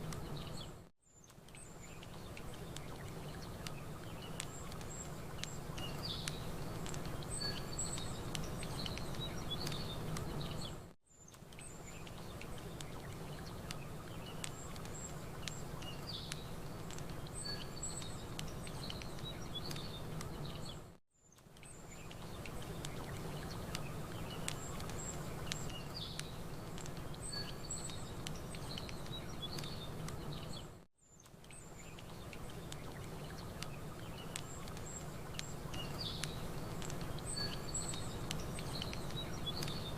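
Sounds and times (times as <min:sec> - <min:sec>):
small birds chirping: 0:00.0 - 0:39.9
campfire crackling and popping: 0:01.2 - 0:20.8, 0:21.4 - 0:39.9.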